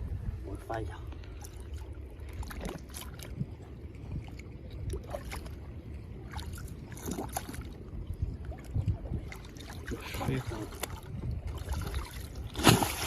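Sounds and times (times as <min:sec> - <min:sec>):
steady low rumble: 0:00.0 - 0:13.0
seawater sloshing and splashing: 0:01.3 - 0:13.0.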